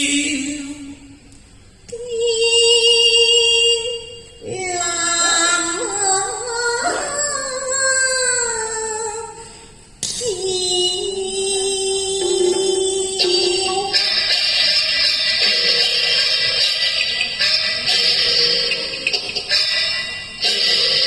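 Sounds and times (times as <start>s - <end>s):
opera music with wavering notes: 0.0s - 21.0s.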